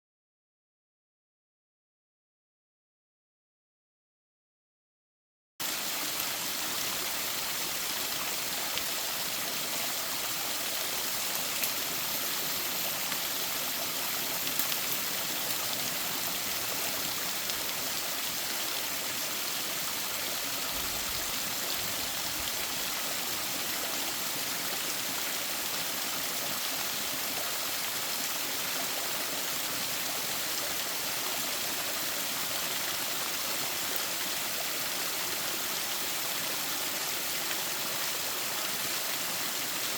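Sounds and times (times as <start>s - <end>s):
stream flowing over rocks: 5.6s - 39.9s.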